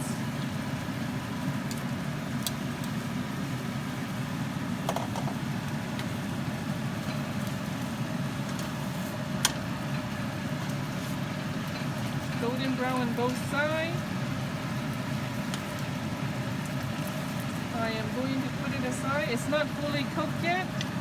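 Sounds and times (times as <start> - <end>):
meat frying in a pan: 0.0 - 21.0.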